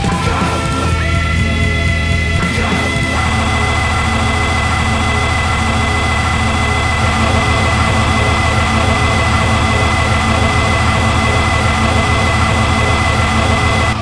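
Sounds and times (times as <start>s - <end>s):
electronic noise drone: 0.0s - 14.0s
sustained high tone: 2.4s - 14.0s.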